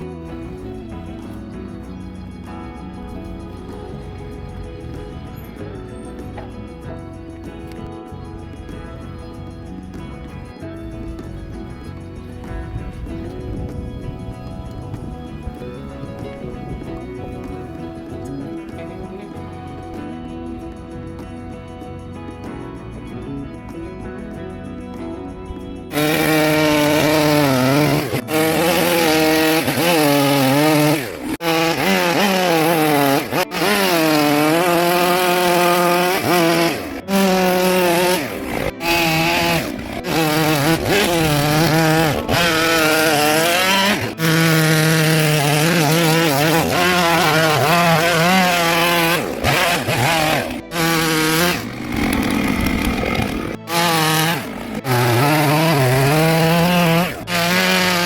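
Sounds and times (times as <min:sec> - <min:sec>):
chainsaw carving wood: 0:00.0 - 0:21.7, 0:25.7 - 0:58.0.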